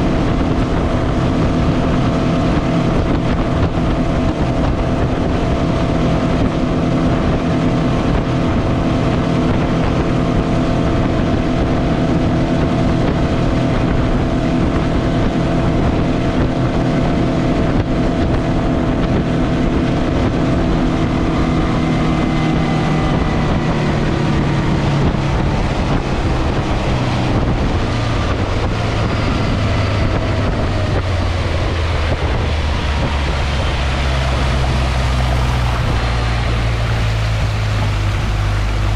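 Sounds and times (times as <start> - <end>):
outboard motor running: 0.0 - 38.9
wind on microphone: 0.0 - 38.9.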